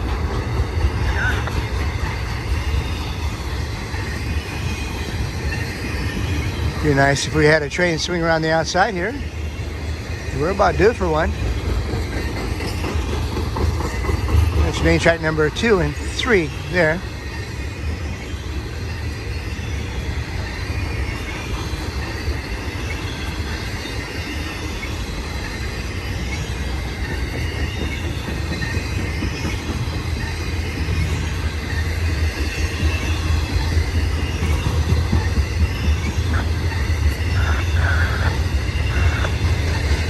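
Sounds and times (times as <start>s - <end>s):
freight train wheels rumbling: 0.0s - 40.0s
high wheel squeal: 0.0s - 40.0s.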